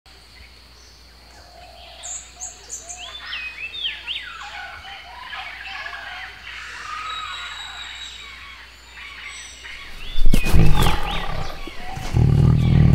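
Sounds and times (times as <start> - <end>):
birds calling: 1.3 - 12.9.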